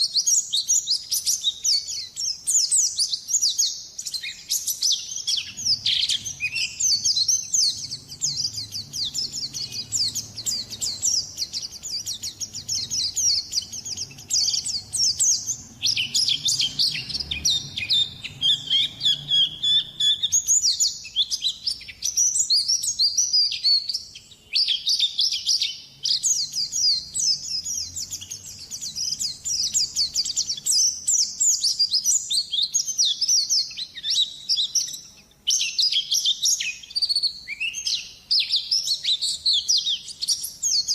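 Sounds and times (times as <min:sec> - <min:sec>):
white-eye bird twittering song: 0:00.0 - 0:40.9.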